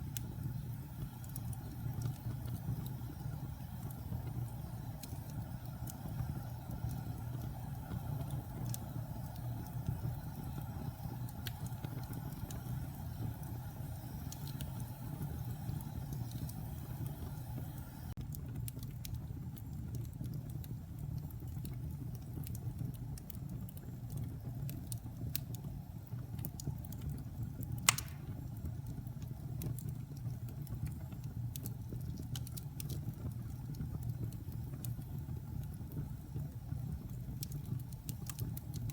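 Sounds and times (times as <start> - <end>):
fire crackling: 0.0 - 38.9
fire roaring: 0.0 - 38.9
wood fire popping: 0.0 - 38.9.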